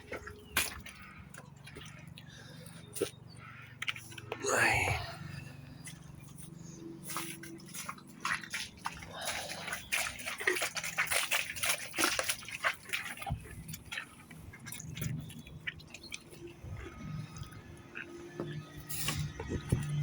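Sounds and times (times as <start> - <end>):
horses chewing feed: 0.0 - 4.4, 5.1 - 20.0.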